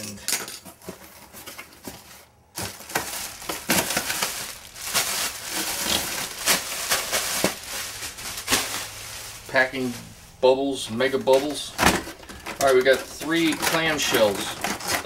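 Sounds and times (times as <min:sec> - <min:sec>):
plastic packing crinkling: 0:00.5 - 0:15.0.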